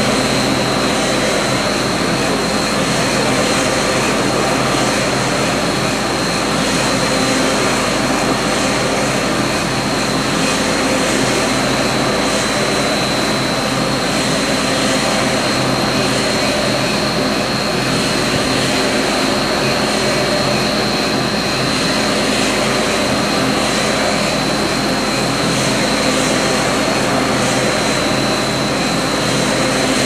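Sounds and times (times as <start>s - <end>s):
high machinery whine: 0.0s - 30.0s
machinery low drone: 0.0s - 30.0s.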